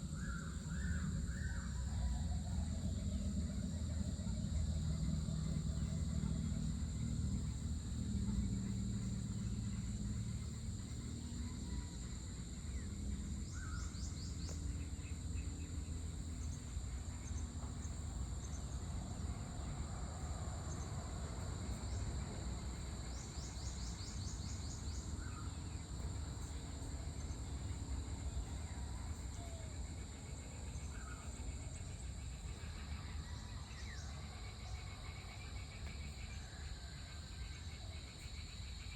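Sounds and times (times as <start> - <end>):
low rumbling hum: 0.0 - 38.8
insects chirping: 0.0 - 38.9.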